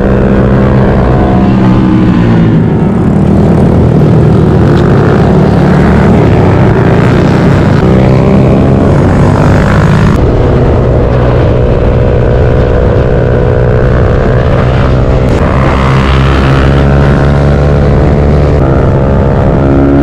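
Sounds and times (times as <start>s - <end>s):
small motorcycle engine running: 0.0s - 20.0s
wind rush over microphone: 0.0s - 20.0s.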